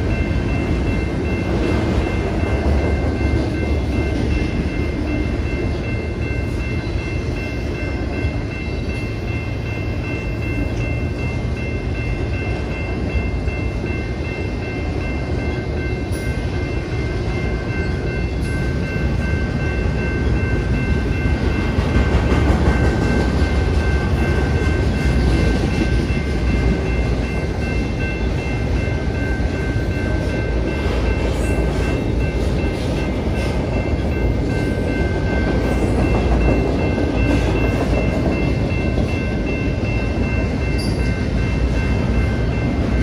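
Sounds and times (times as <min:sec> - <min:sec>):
steady high ringing: 0:00.0 - 0:43.0
train wheels clattering on rails: 0:00.0 - 0:43.0.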